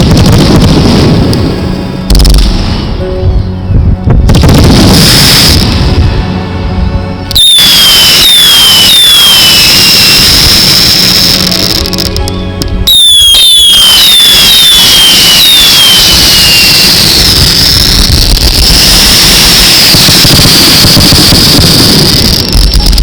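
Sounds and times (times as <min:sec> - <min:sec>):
fireworks going off: 0:00.0 - 0:03.0, 0:04.1 - 0:06.4, 0:07.3 - 0:23.0
fireworks falling whistles: 0:00.0 - 0:06.2, 0:07.3 - 0:23.0.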